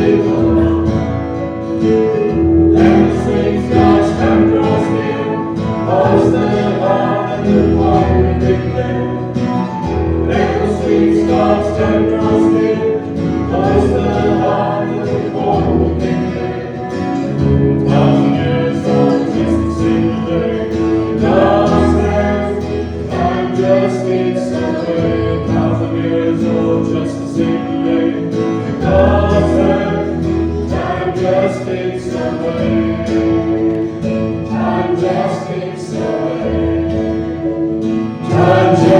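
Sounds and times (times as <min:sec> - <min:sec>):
choir singing a hymn: 0:00.0 - 0:38.9
instrumental accompaniment: 0:00.0 - 0:38.9.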